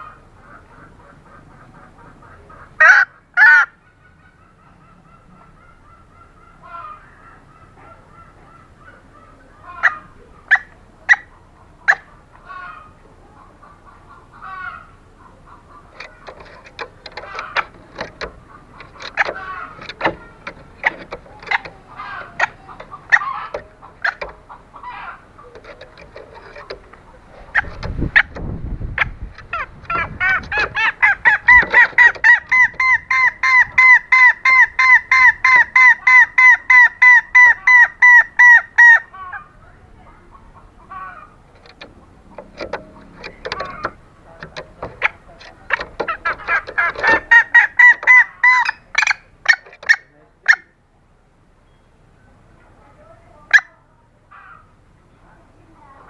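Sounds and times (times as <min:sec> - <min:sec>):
junglefowl hen calling: 0:00.0 - 0:50.8, 0:51.7 - 0:56.0.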